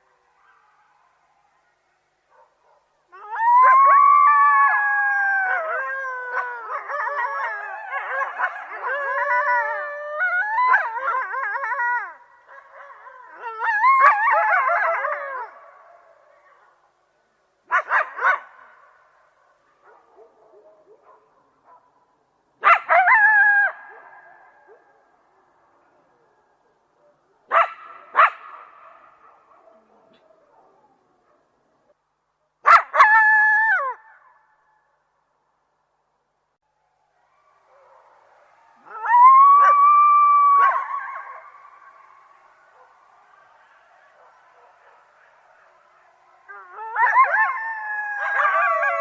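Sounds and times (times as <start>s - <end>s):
coyotes howling and yipping: 0.0s - 17.0s, 17.7s - 21.9s, 22.6s - 31.5s, 37.0s - 49.0s.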